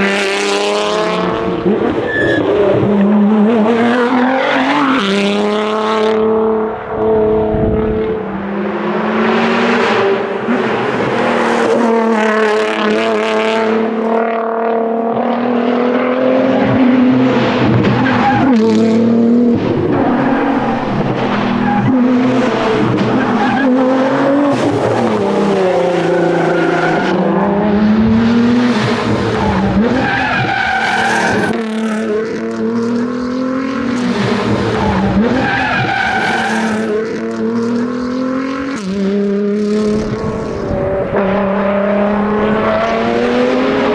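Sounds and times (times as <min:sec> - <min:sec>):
car engine revving through gears: 0:00.0 - 0:43.9.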